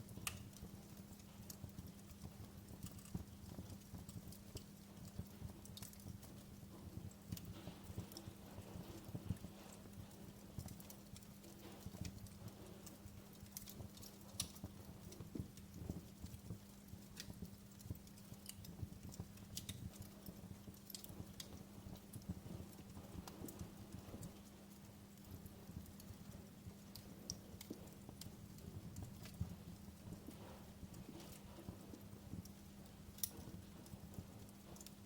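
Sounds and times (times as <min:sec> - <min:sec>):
faint wood fire crackling: 0:00.0 - 0:35.0.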